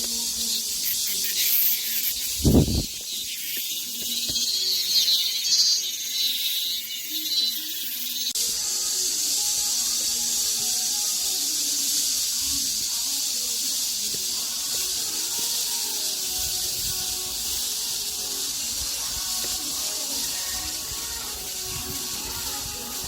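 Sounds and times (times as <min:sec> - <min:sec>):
cicadas droning: 0:00.0 - 0:23.0.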